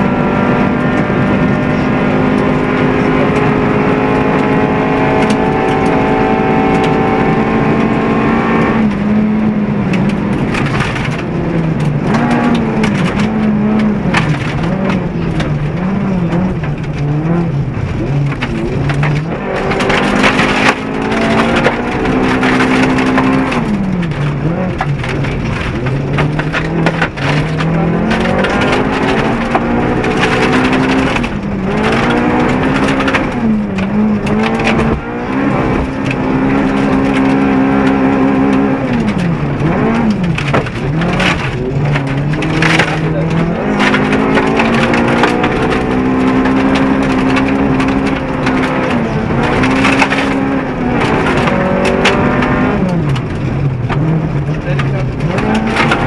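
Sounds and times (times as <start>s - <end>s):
car engine revving at full effort: 0.0s - 56.0s
gravel clattering against underbody: 9.9s - 56.0s.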